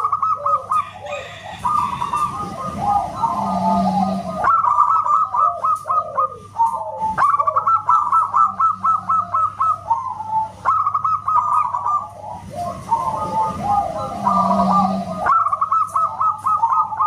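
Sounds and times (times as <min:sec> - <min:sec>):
dove singing: 0:00.0 - 0:17.0.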